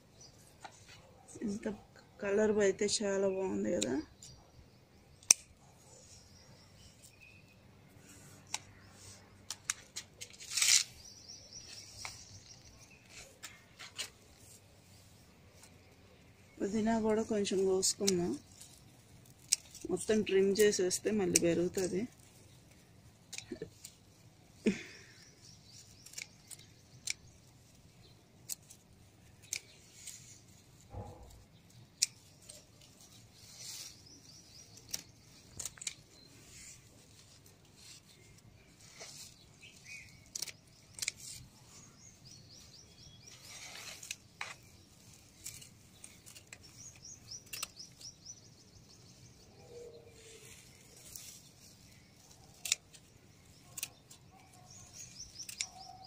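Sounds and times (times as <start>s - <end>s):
birds chirping: 0.0s - 56.0s
scissors snipping stems: 2.8s - 4.4s, 5.1s - 7.4s, 8.0s - 14.6s, 15.6s - 56.0s.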